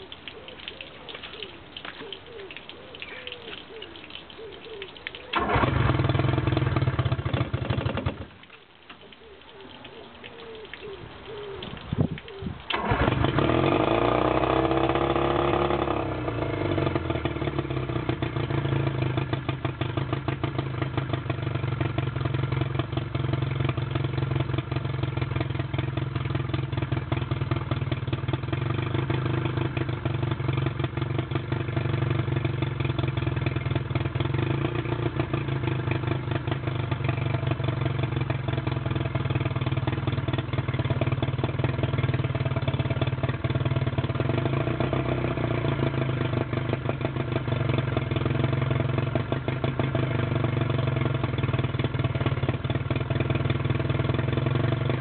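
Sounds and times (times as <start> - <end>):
outboard motor starting and running: 4.4 - 8.4, 11.3 - 55.0.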